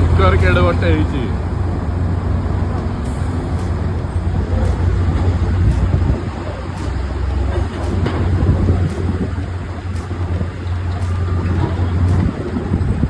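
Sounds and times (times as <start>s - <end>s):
low mechanical engine rumble: 0.0s - 13.0s.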